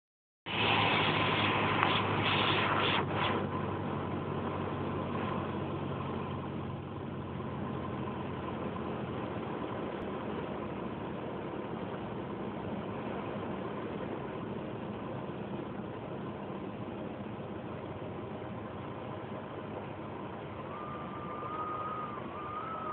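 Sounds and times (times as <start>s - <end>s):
cabin air noise: 0.5s - 22.9s
plane engine and propeller droning: 0.5s - 22.9s.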